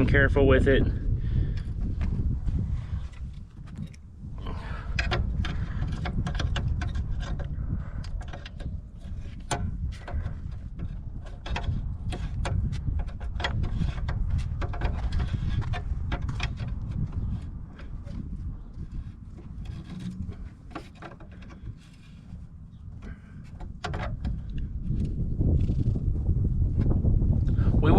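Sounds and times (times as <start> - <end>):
steady low rumble: 0.0 - 27.9
plastic clicks and scrapes: 3.0 - 26.0.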